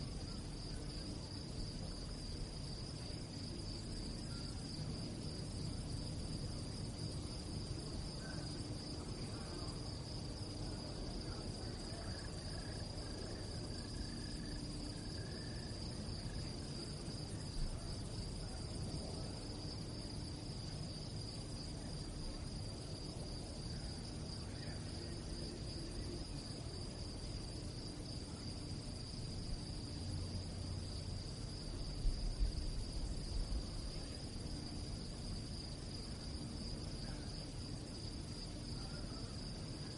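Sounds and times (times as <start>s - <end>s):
crickets chirping: 0.0s - 39.9s
low background rumble: 0.0s - 39.9s.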